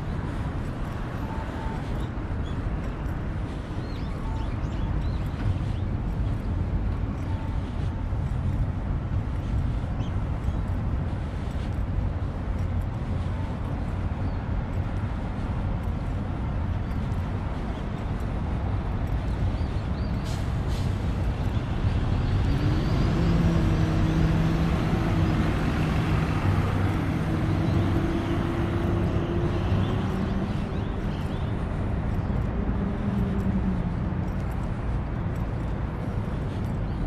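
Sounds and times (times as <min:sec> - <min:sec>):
large vehicle engine hum: 0:00.0 - 0:37.0
street traffic: 0:00.0 - 0:37.0.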